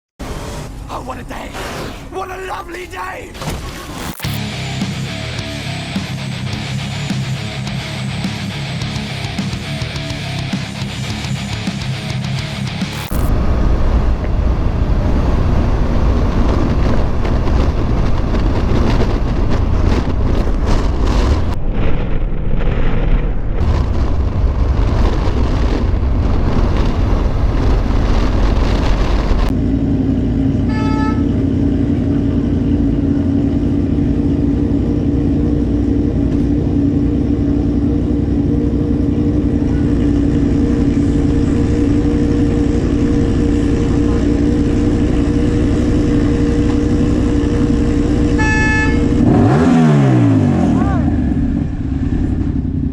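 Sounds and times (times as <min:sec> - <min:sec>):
heavy vehicle rumble: 0:00.2 - 0:52.9
steady drone: 0:03.7 - 0:52.9.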